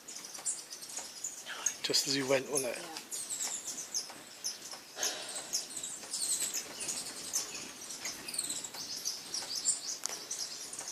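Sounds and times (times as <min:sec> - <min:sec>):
hummingbirds twittering: 0:00.0 - 0:10.9.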